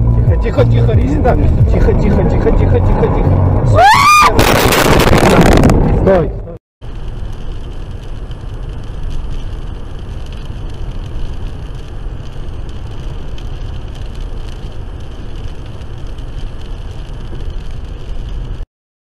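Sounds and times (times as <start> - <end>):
car road noise at highway speed: 0.0 - 18.6.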